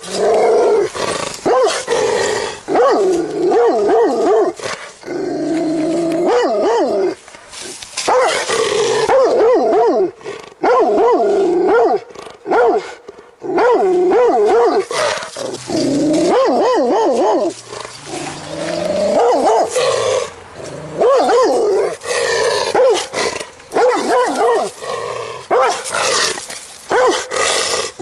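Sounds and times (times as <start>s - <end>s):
dog growling and snarling: 0.0s - 9.2s, 10.0s - 26.6s.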